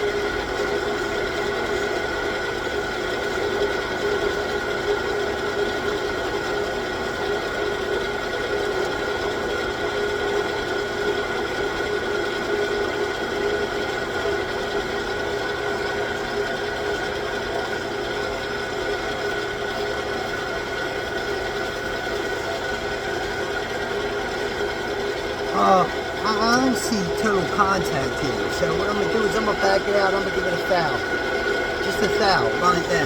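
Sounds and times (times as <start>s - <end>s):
lathe running with gear whine: 0.0s - 33.0s.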